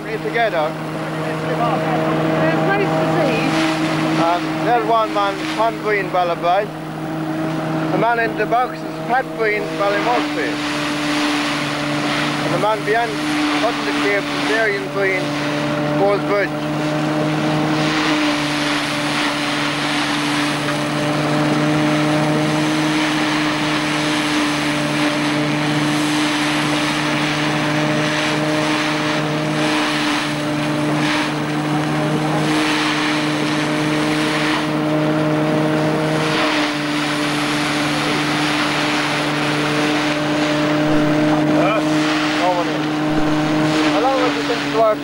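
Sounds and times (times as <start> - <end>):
threshing mill running: 0.0 - 45.0.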